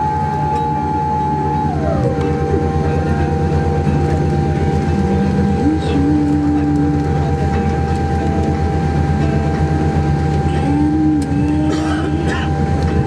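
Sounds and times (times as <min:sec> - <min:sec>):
aircraft cabin rumble: 0:00.0 - 0:13.0
steady humming tones: 0:00.0 - 0:13.0
wavering low hum: 0:00.0 - 0:13.0.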